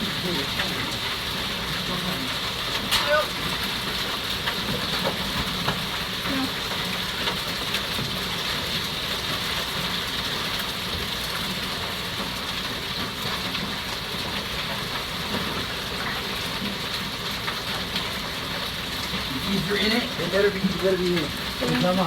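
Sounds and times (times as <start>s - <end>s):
hail and heavy rain: 0.0s - 22.0s.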